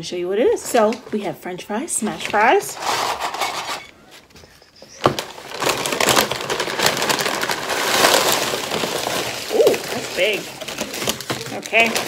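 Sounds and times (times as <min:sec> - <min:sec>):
paper bag crinkling: 0:02.0 - 0:12.0.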